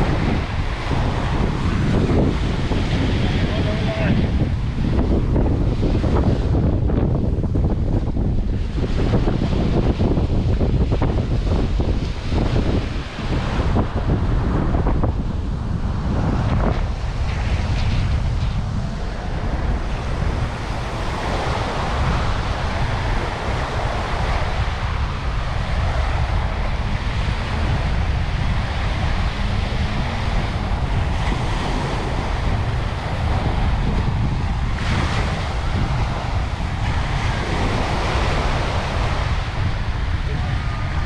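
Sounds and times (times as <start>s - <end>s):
waves washing onto beach: 0.0s - 41.0s
wind buffeting microphone: 0.0s - 41.0s.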